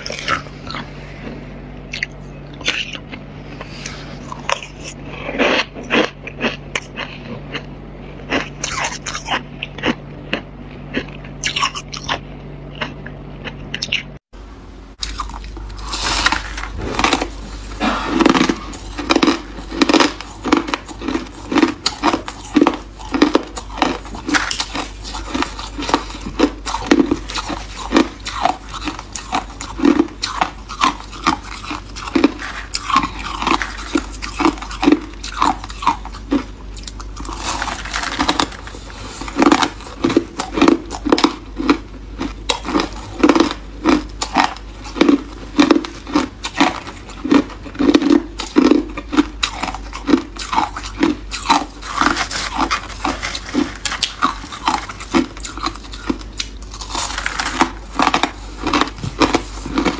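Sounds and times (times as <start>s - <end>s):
chewing and crunching ice: 0.0s - 14.2s, 15.0s - 59.9s.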